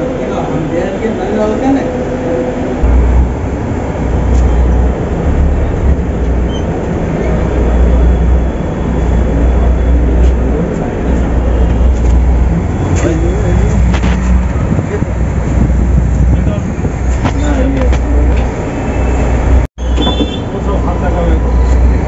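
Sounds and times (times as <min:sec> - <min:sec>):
bus diesel engine rumbling: 0:00.0 - 0:22.0.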